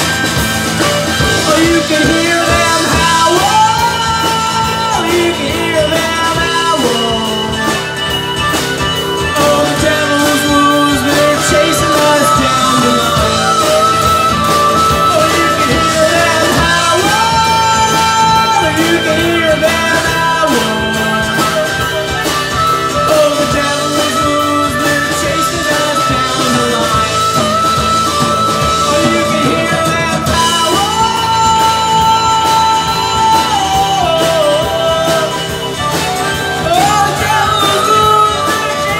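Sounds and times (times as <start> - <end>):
bass guitar: 0.0 - 38.9
drums: 0.0 - 38.9
electric guitar: 0.0 - 38.9
harmonica bending long notes: 0.0 - 38.9.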